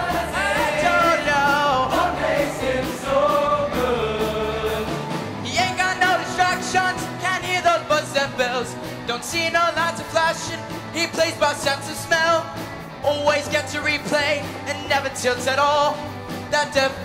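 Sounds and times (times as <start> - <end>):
choir singing a rock song: 0.0 - 16.5
man singing lead: 0.0 - 17.0
rock backing with bass line: 0.0 - 17.0.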